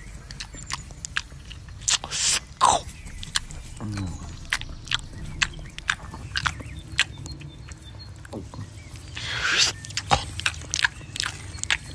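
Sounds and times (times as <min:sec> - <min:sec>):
wet chewing clicks and smacks: 0:00.0 - 0:11.9.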